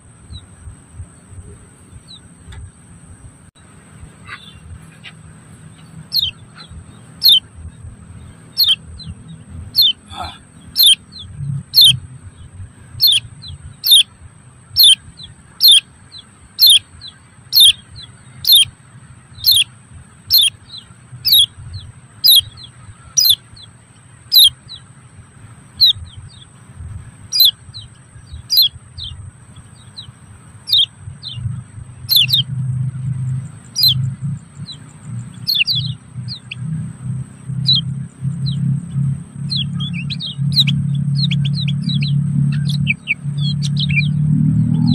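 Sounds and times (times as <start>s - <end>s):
bird chirping: 0.0s - 44.9s.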